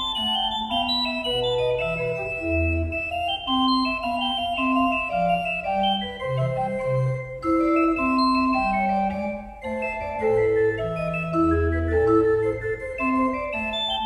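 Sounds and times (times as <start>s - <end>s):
organ music: 0.0s - 14.0s.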